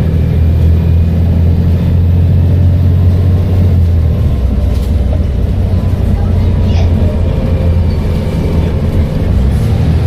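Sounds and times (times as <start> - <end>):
bus diesel engine drone: 0.0 - 10.0.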